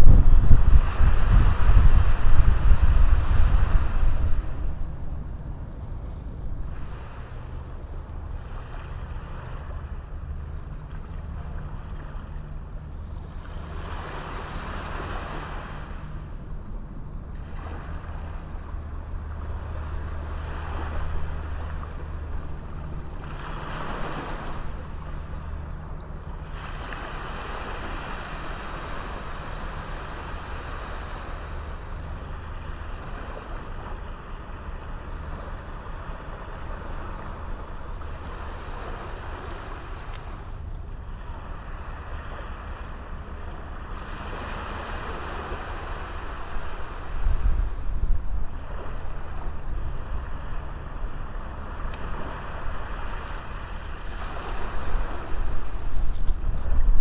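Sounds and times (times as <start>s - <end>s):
sea waves breaking: 0.0s - 57.0s
wind rumble on microphone: 0.0s - 57.0s.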